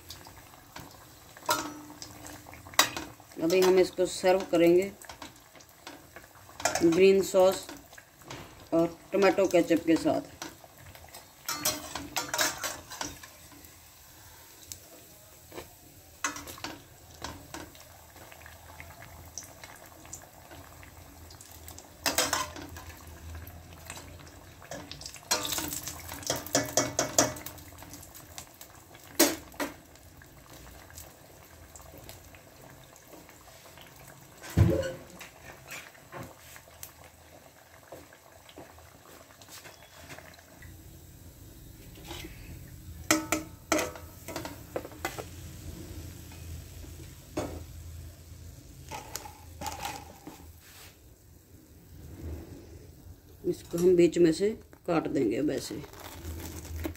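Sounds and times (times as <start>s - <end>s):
food deep-frying in oil: 0.0s - 56.9s.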